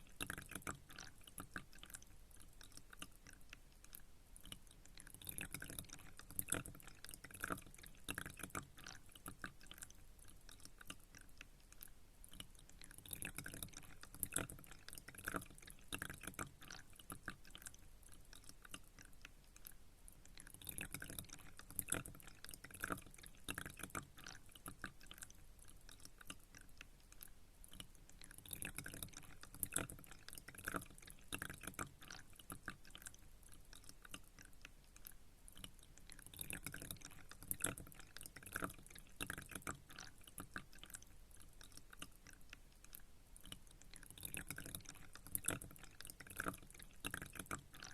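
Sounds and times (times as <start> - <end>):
water dripping and trickling: 0.0 - 47.9.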